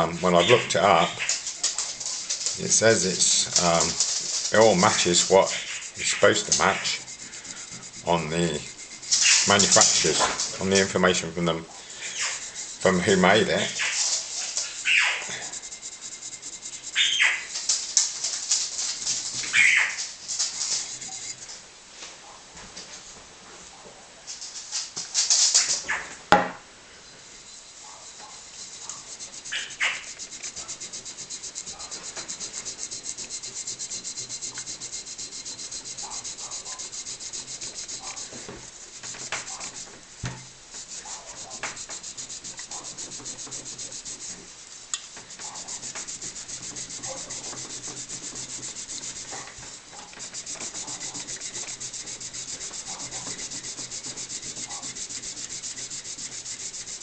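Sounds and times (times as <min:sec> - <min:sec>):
abrasive scrubbing metal: 0:00.0 - 0:21.6, 0:27.4 - 0:57.0.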